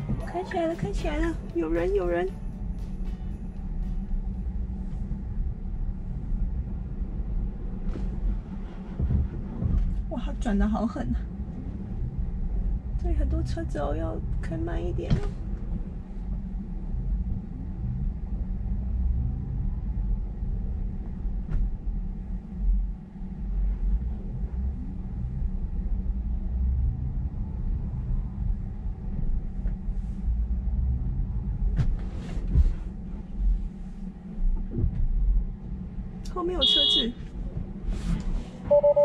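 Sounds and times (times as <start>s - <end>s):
car rolling slowly: 0.0s - 39.0s.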